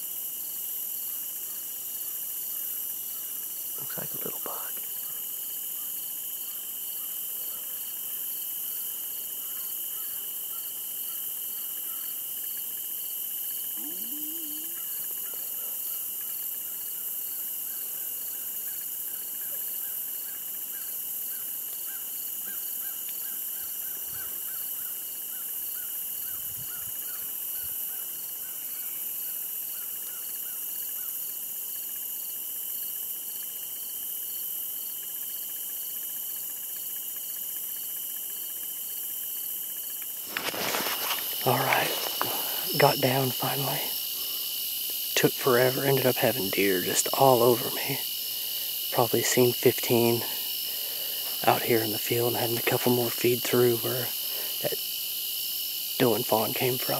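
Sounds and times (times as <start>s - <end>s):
insects trilling: 0.0s - 56.9s
rhythmic insect chirp: 0.0s - 56.9s.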